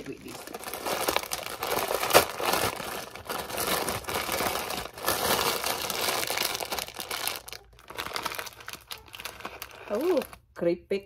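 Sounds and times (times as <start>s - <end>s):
plastic wrapping crinkling: 0.0s - 10.5s.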